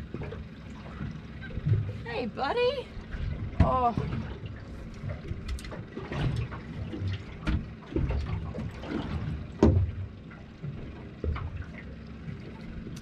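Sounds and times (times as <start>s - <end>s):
knocks and taps on boat: 0.0s - 13.0s
water lapping at hull: 0.0s - 13.0s.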